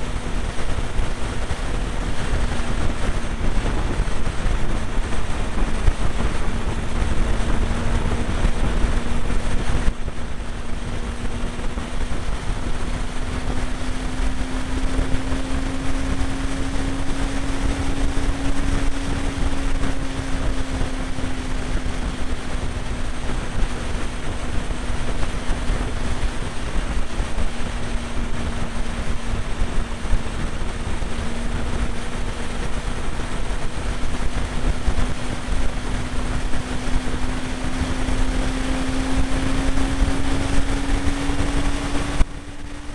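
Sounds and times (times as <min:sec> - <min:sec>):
motorcycle engine hum: 0:00.0 - 0:42.9
wind and road noise: 0:00.0 - 0:42.9.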